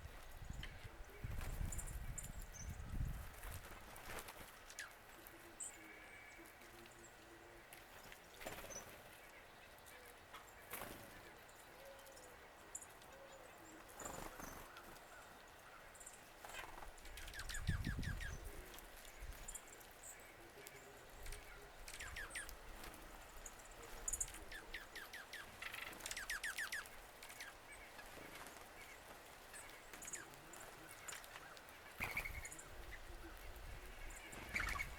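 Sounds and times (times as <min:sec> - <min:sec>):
birds calling faintly: 0:00.0 - 0:34.9.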